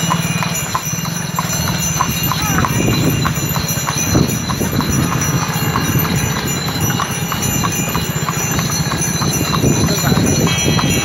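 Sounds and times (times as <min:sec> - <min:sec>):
horse hooves trotting on asphalt: 0:00.0 - 0:11.0.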